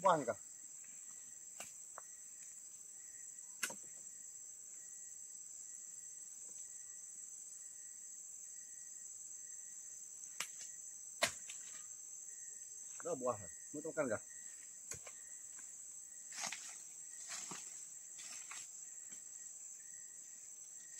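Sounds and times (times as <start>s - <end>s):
insect chorus: 0.0s - 20.9s.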